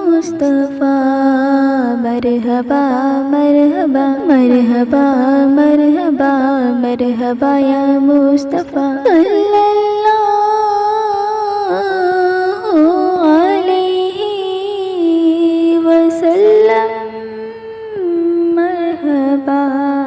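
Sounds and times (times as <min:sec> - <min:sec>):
person humming devotional melody: 0:00.0 - 0:20.0.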